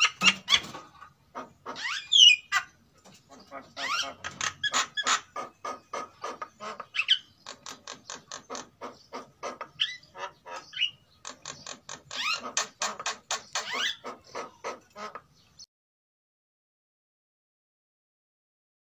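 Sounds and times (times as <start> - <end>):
mynas chattering calls: 0.0 - 15.4.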